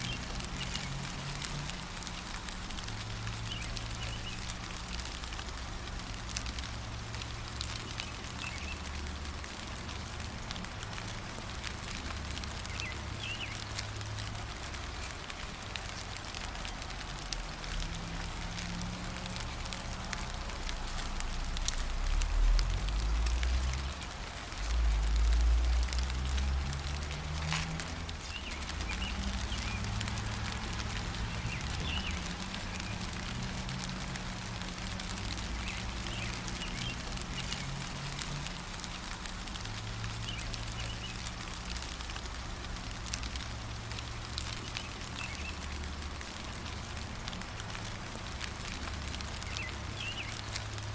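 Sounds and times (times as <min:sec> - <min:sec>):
drips ticking: 0:00.0 - 0:50.9
gentle rain falling: 0:00.0 - 0:50.9.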